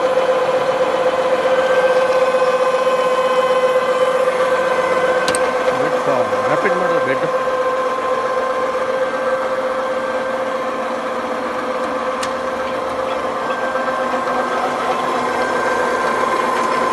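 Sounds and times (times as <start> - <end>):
constant machine whine: 0.0 - 16.9
milling machine humming: 0.0 - 16.9.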